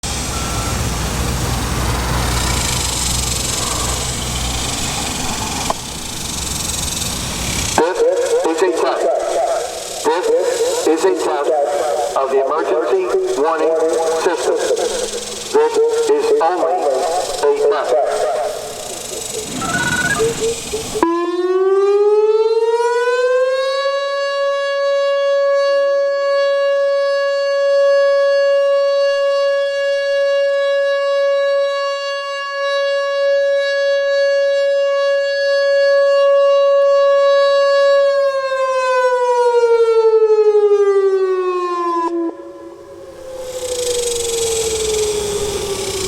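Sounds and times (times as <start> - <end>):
electronic warning siren: 0.0 - 46.0.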